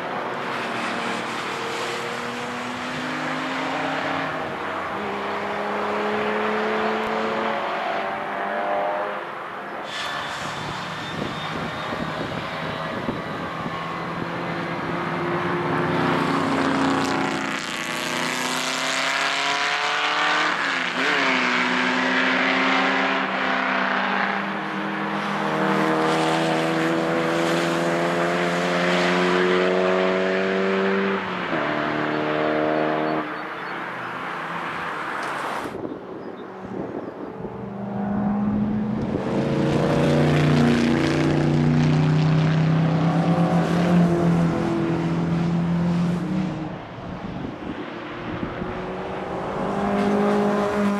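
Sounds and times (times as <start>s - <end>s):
racing car engines at full throttle: 0.0s - 50.9s.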